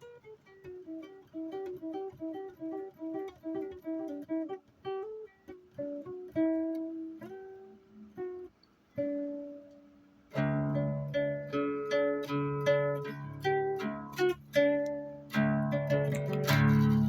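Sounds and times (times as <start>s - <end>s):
plucked acoustic string instrument: 0.0s - 17.0s.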